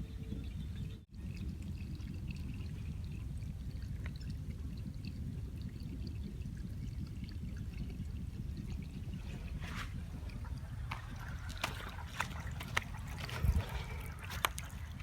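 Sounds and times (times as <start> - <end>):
water drips and splashes: 1.0 - 15.0.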